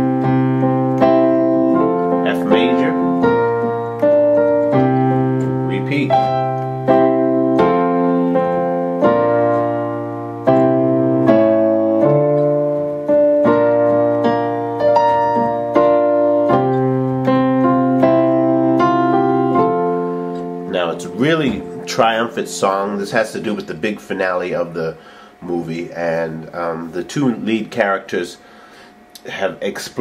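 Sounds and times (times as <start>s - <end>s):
piano playing block chords: 0.0s - 28.9s.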